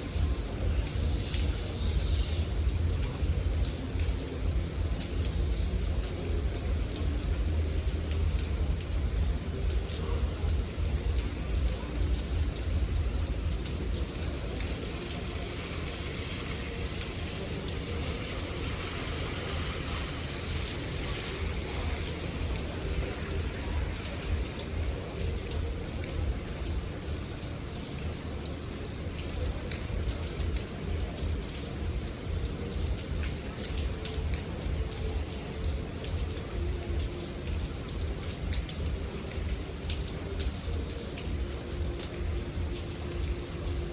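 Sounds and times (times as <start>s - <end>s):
continuous low rumble: 0.0s - 43.9s
rain pattering: 0.0s - 43.9s.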